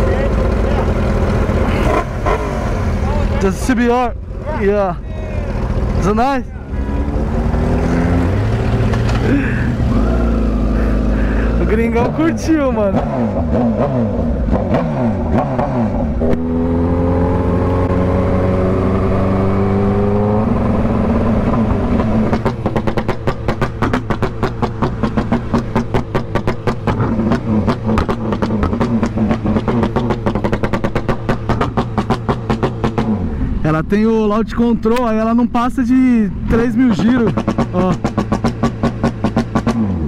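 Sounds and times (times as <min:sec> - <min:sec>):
motorcycle engine revving: 0:00.0 - 0:33.7, 0:35.3 - 0:40.0.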